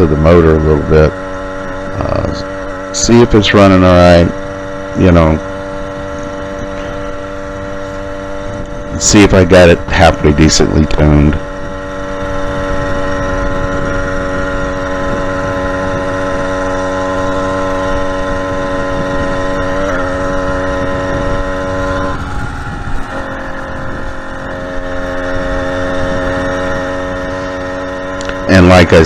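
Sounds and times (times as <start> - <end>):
two-stroke engine buzzing: 0.0 - 29.0.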